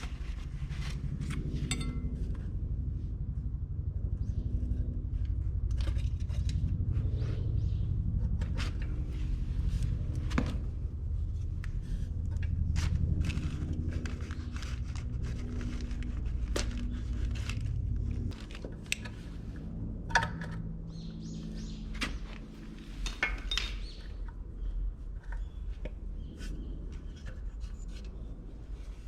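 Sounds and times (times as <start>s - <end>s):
engine humming: 0.0s - 24.8s.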